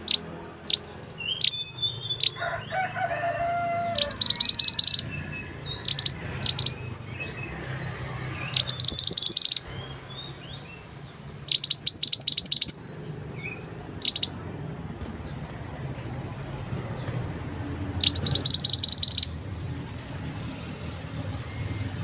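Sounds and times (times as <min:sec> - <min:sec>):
bird chirping: 0:00.0 - 0:02.9, 0:03.7 - 0:14.5, 0:15.2 - 0:20.4.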